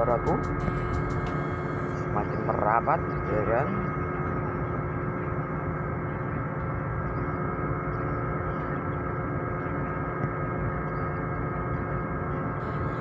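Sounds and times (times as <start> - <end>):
ship engines rumbling: 0.0 - 10.7, 11.5 - 13.0
machinery humming tones: 0.0 - 13.0.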